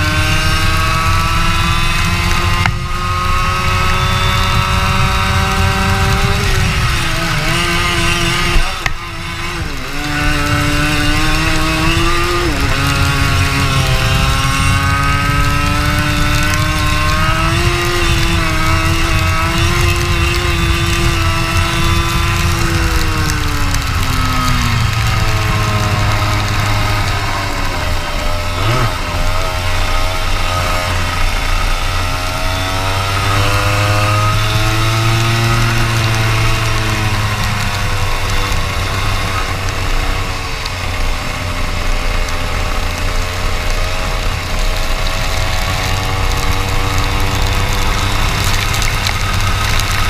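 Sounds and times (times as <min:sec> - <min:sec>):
racing kart engine: 0:00.0 - 0:50.0.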